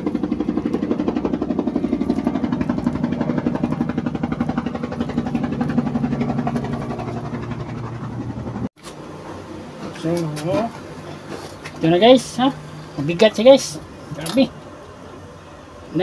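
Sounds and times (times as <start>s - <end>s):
engine running with fast throb: 0.0s - 16.0s.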